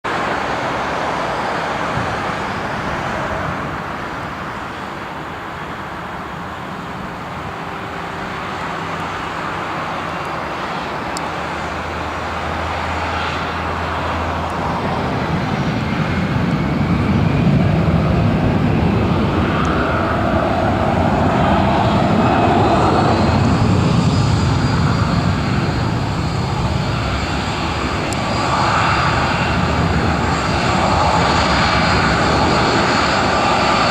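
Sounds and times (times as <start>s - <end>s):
high engine whine: 0.1s - 33.9s
jet engines taxiing: 0.1s - 33.9s.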